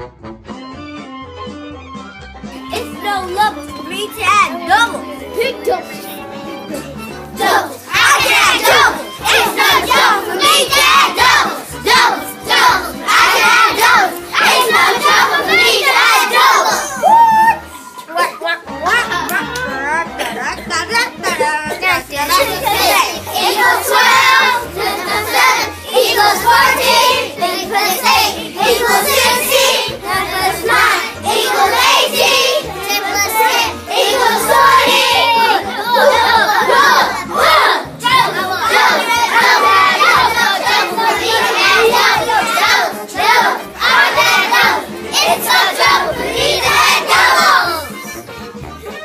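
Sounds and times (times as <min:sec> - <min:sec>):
music with steady beat: 0:00.0 - 0:49.0
children singing and shouting: 0:02.4 - 0:49.0.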